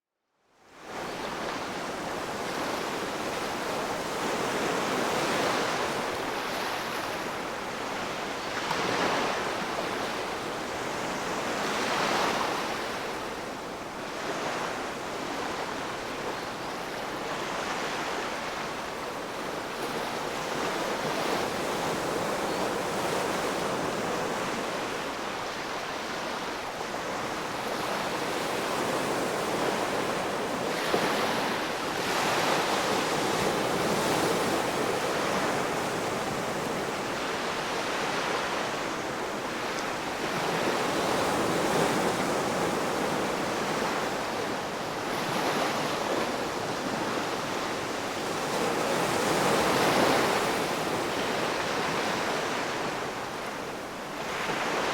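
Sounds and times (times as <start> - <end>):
ocean waves breaking on shore: 0.8 - 54.9.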